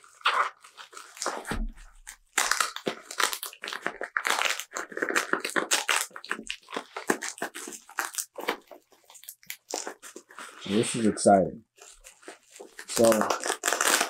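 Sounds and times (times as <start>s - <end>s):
bubble wrap crackling: 0.0s - 14.0s.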